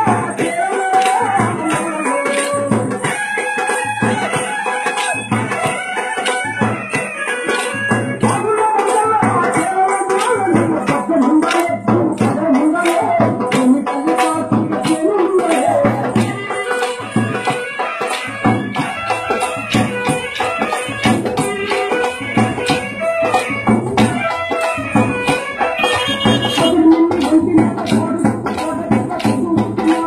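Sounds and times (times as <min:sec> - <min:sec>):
steady drum beat: 0:00.0 - 0:30.0.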